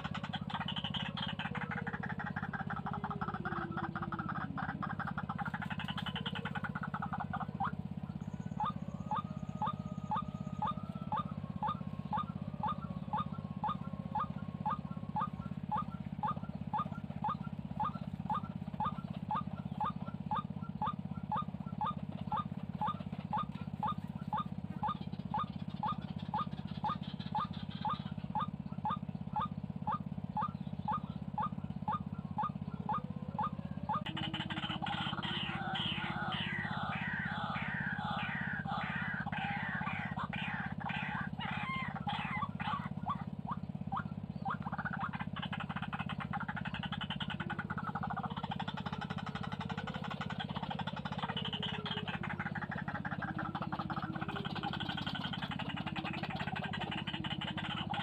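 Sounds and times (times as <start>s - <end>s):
steady low hum: 0.0s - 58.0s
waterhen calling: 0.0s - 58.0s.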